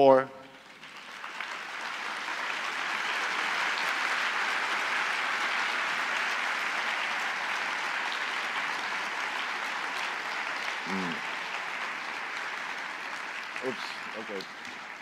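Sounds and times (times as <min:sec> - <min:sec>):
audience applauding: 0:00.6 - 0:15.0.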